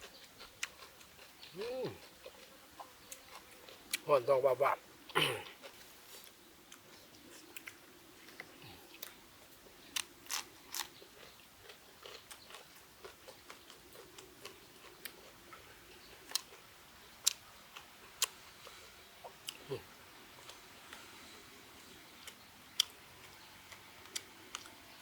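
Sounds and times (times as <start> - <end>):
person chewing and crunching: 0.0 - 4.1, 5.1 - 21.5, 22.2 - 25.0.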